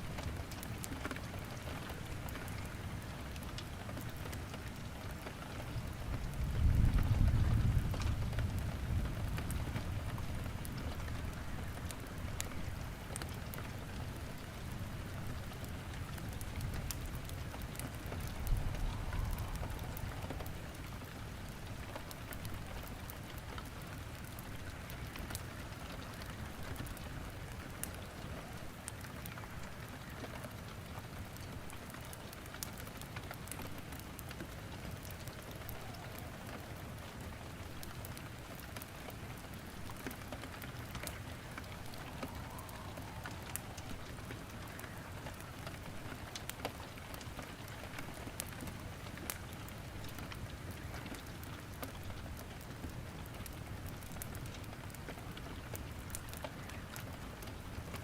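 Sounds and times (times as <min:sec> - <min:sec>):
logs crackling in fireplace: 0:00.0 - 0:58.0
steady rain falling: 0:00.0 - 0:58.0.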